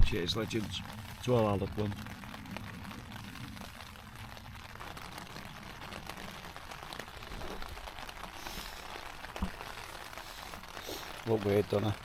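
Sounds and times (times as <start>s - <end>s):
rain on a tent: 0.0s - 12.0s.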